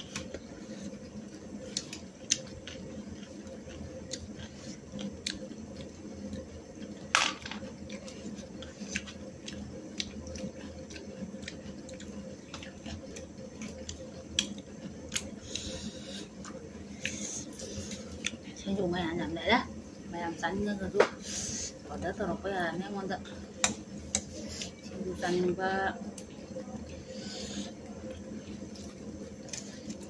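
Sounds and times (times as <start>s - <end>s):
people chewing: 0.0s - 18.6s, 23.6s - 25.2s, 26.0s - 30.0s.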